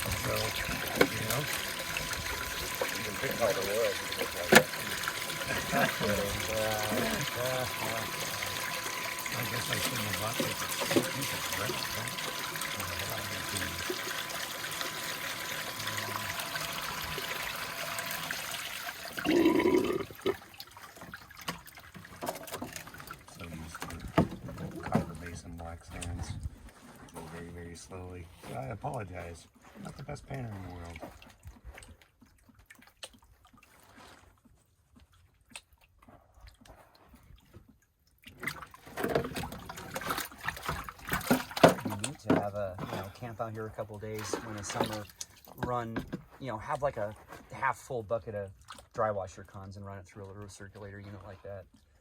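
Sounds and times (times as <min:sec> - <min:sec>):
water trickling and pouring: 0:00.0 - 0:34.4, 0:35.8 - 0:52.0.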